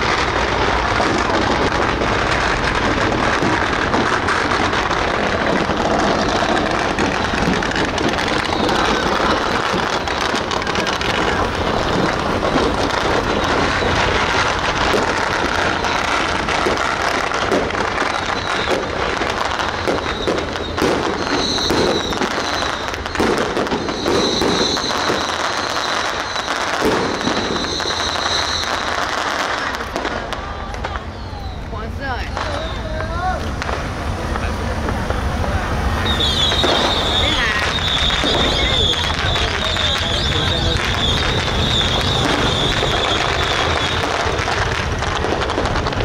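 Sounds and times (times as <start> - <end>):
firecrackers crackling: 0.0 - 46.0.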